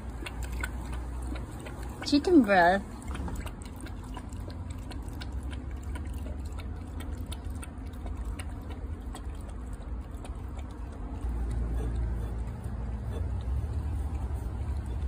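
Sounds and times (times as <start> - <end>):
low steady rumble: 0.0 - 15.0
puppy lapping water: 0.0 - 15.0.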